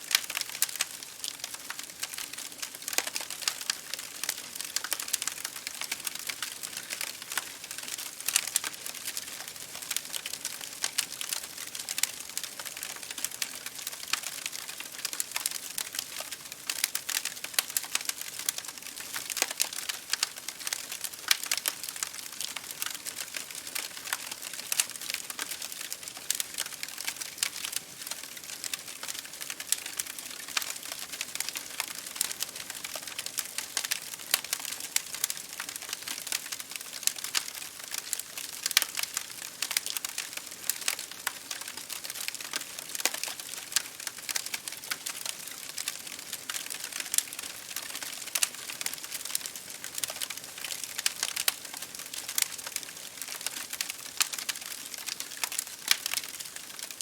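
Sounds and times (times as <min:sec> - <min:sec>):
wood fire crackling: 0:00.0 - 0:57.0
rain hitting a window pane: 0:00.1 - 0:57.0.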